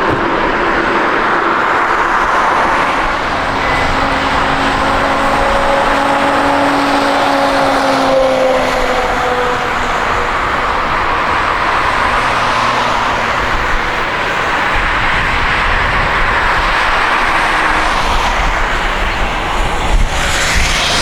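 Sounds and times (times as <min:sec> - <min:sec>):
jet airliner engines rushing: 0:00.0 - 0:21.0.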